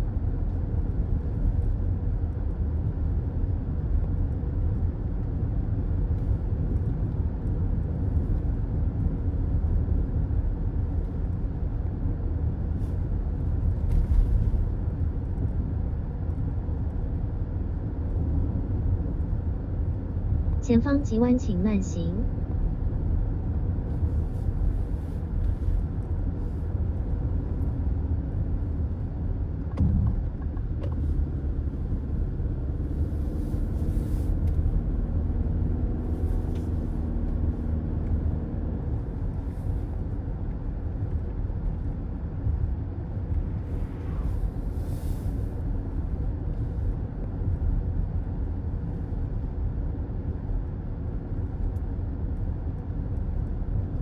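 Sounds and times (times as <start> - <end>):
car road noise rumble: 0.0 - 21.2, 21.9 - 54.0.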